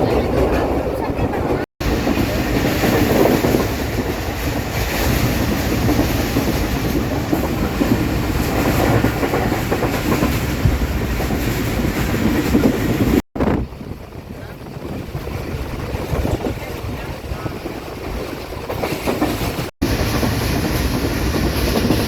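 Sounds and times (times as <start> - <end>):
train rumbling on track: 0.0 - 22.0
wheels clickety-clack over rails: 0.0 - 22.0.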